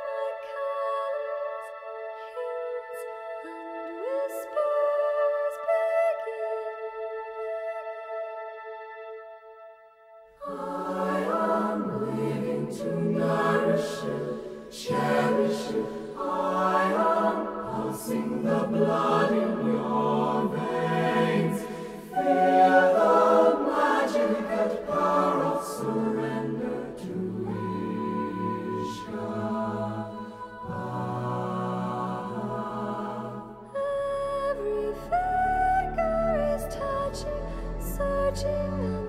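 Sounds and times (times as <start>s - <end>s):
choir singing sustained chords: 0.0s - 39.0s.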